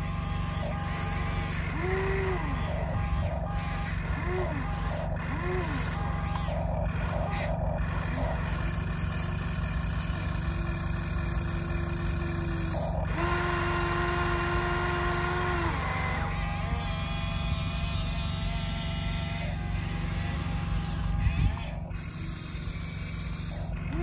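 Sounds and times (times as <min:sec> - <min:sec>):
electric motors whining: 0:00.0 - 0:24.0
steady low hum: 0:00.0 - 0:24.0.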